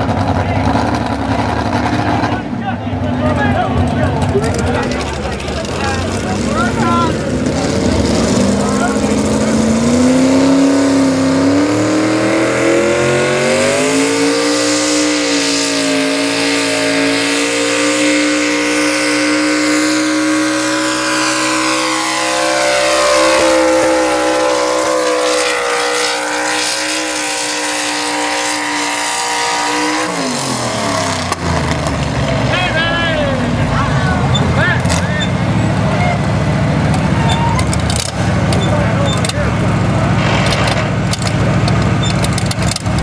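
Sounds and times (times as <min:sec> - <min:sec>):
truck engine at full throttle: 0:00.0 - 0:43.0.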